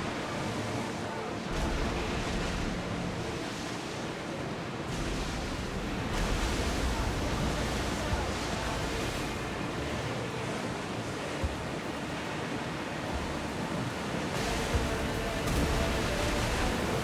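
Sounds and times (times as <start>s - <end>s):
sea waves washing: 0.0s - 17.0s.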